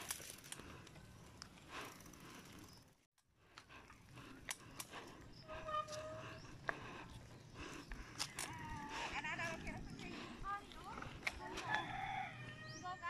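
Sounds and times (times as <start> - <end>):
bicycle clicks and rattles: 0.0 - 11.9.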